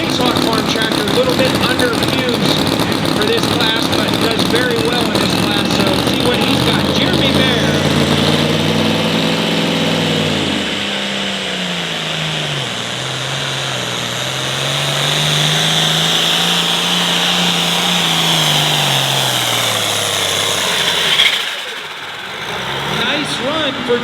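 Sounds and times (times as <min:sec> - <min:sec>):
tractor diesel engine working hard: 0:00.0 - 0:24.0.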